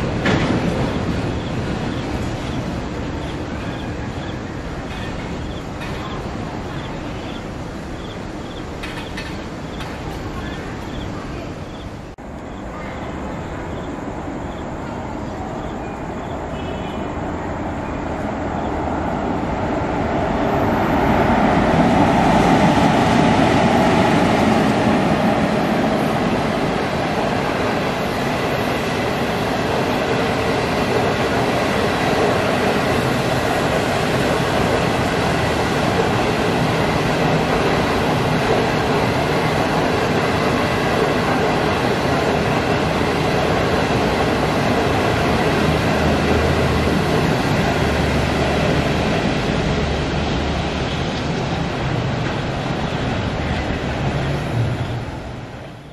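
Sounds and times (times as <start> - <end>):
electric locomotive passing: 0.0 - 55.9
train wheels rolling on rails: 0.0 - 55.9.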